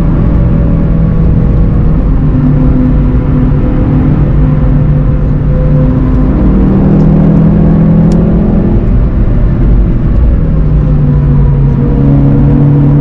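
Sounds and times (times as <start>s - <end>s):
car engine pulling hard: 0.0s - 13.0s
tyre and road noise: 0.0s - 13.0s.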